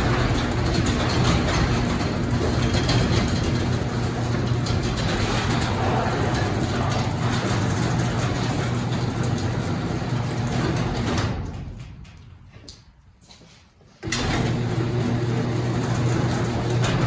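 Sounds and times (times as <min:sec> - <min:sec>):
garage door opener motor hum: 0:00.0 - 0:12.5, 0:14.0 - 0:17.0
garage door rollers rattling: 0:00.0 - 0:12.6, 0:14.0 - 0:17.0.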